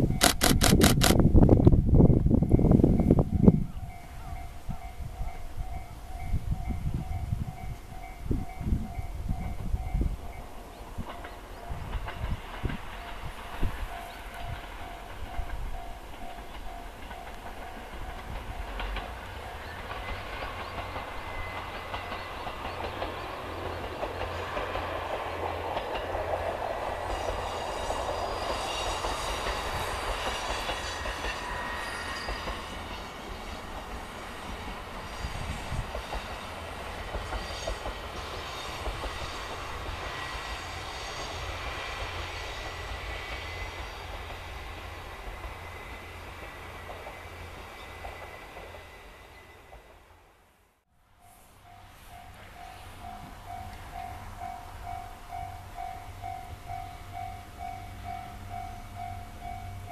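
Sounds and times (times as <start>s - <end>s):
diesel railcar passing: 0.0s - 59.9s.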